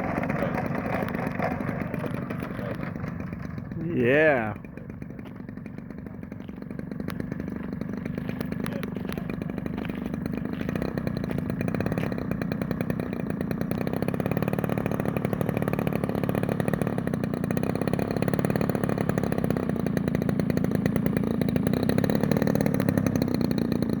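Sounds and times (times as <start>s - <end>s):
aircraft radial engine running: 0.0s - 24.0s.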